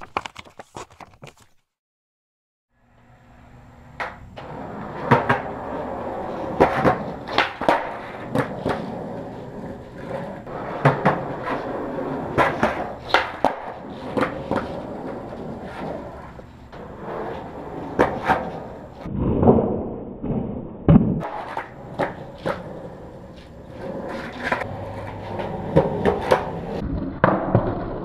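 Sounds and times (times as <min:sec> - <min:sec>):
skateboard wheels rolling on concrete: 0:03.8 - 0:28.0
skateboard clacks and landings: 0:04.0 - 0:28.0.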